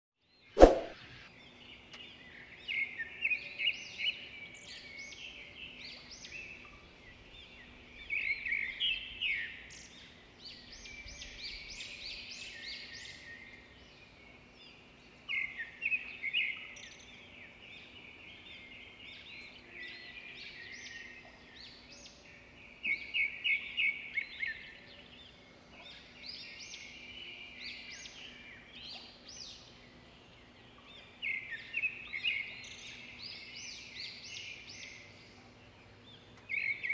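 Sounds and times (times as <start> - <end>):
songbirds singing: 0.2 - 36.9.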